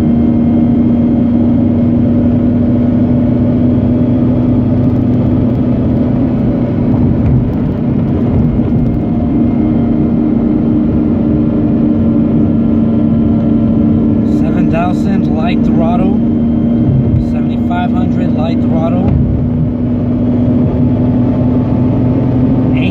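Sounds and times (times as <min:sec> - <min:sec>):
rotary engine droning: 0:00.0 - 0:22.9.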